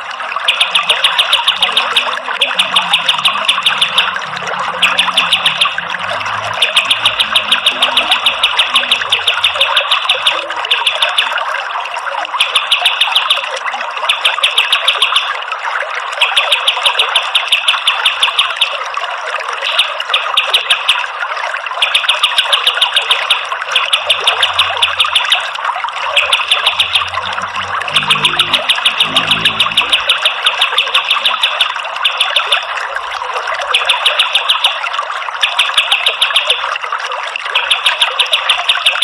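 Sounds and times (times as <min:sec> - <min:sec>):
running water: 0:00.0 - 0:39.0.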